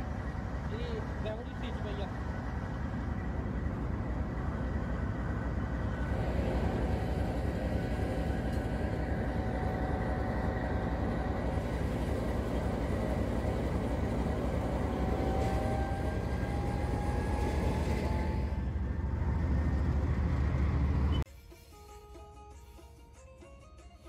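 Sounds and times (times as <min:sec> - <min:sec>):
faint whine: 0:00.0 - 0:21.2
diesel locomotive engine running: 0:00.0 - 0:24.0.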